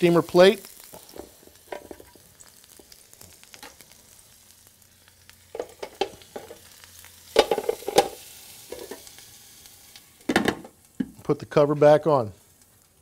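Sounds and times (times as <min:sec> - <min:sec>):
mushrooms sizzling in oil: 0:00.0 - 0:13.0.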